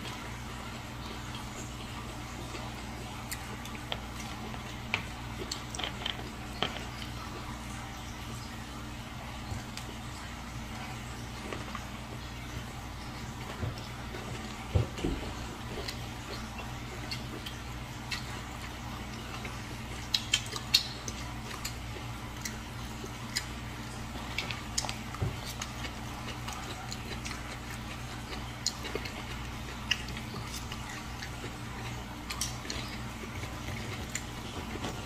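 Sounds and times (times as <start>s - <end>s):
chewing mouth noises: 0.0s - 8.6s, 9.2s - 35.0s
steady low hum: 0.0s - 35.0s.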